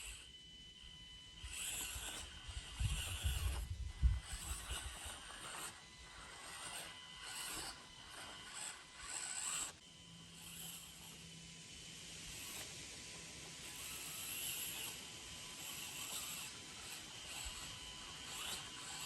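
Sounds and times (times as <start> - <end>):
small electric motor whirring: 0.0 - 19.0.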